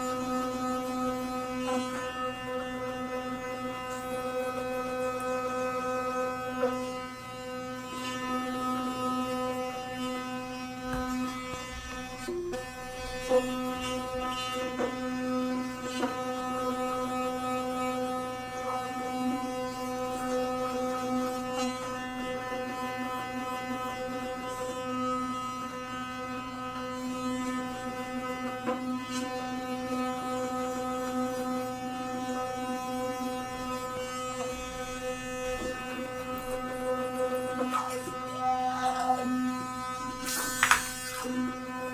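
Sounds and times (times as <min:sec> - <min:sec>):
electric toothbrush buzzing: 0:00.0 - 0:41.9.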